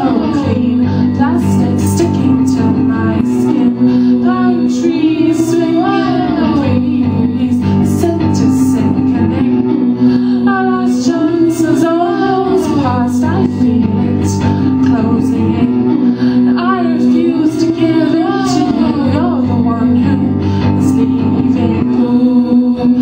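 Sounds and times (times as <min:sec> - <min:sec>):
held chordal accompaniment: 0:00.0 - 0:23.0
person singing with wavering pitch: 0:00.0 - 0:23.0.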